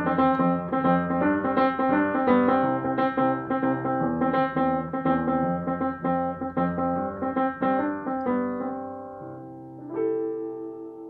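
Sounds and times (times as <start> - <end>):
upright piano playing: 0.0 - 11.0.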